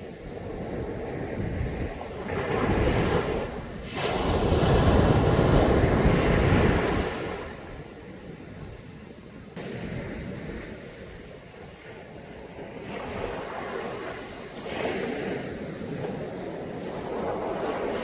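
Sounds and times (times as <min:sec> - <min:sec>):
waves washing onto a beach: 0:00.0 - 0:18.0.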